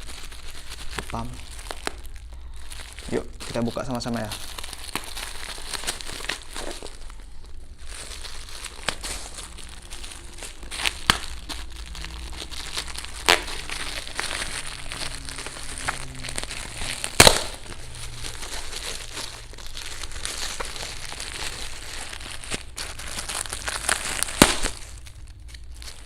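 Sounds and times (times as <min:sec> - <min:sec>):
packaging rustling: 0:00.0 - 0:26.0
packaging snapping: 0:00.0 - 0:26.0.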